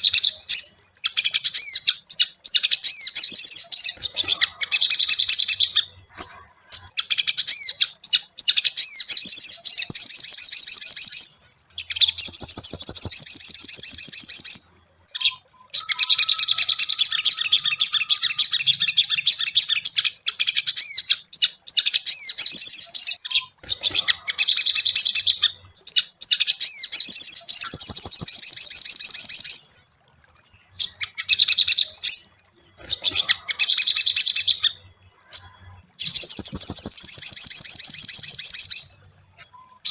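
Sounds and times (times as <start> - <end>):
bird high-pitched chirps: 0.0 - 39.9.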